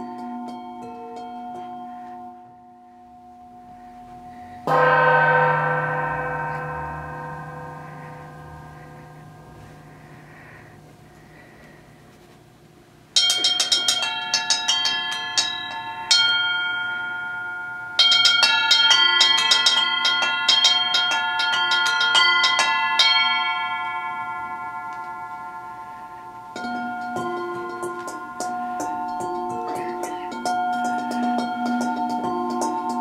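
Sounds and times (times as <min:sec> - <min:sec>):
bell-like metal percussion runs: 0:00.0 - 0:11.5, 0:13.2 - 0:33.0.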